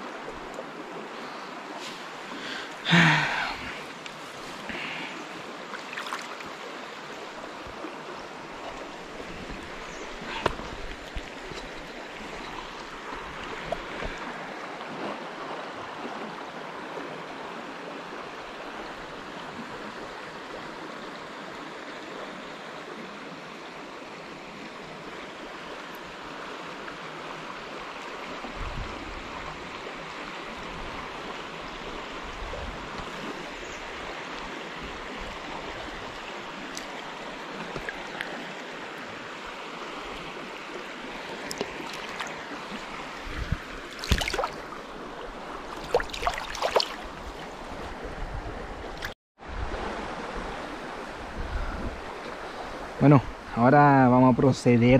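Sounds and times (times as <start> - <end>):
stream water rippling: 0.0 - 54.9.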